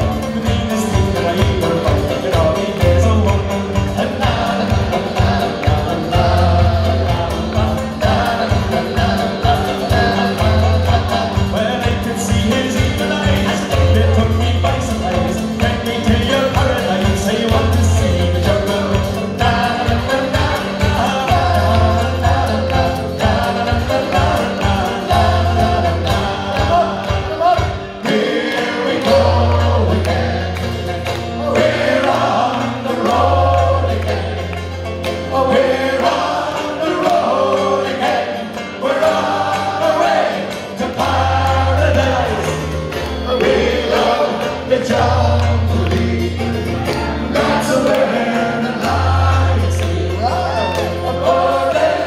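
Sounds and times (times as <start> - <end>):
folk band playing: 0.0 - 52.0
voices singing together: 0.0 - 52.0.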